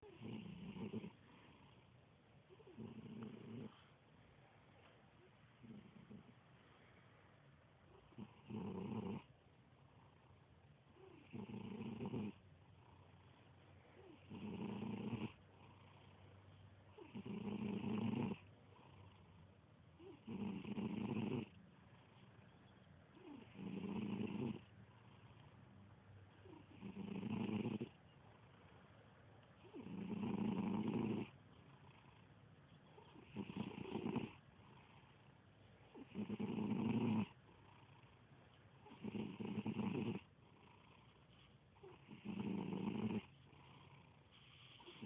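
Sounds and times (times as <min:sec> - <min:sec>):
kitten snoring: 0:00.0 - 0:04.0, 0:05.2 - 0:07.0, 0:07.9 - 0:19.4, 0:20.0 - 0:22.5, 0:23.1 - 0:25.7, 0:26.3 - 0:28.7, 0:29.4 - 0:45.0.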